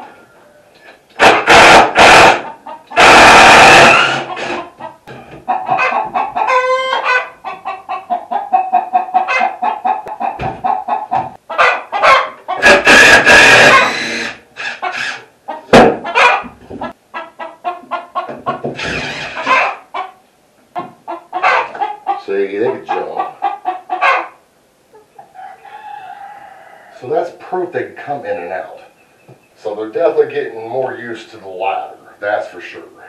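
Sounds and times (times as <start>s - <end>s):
chickens clucking and squawking: 0.0s - 33.0s.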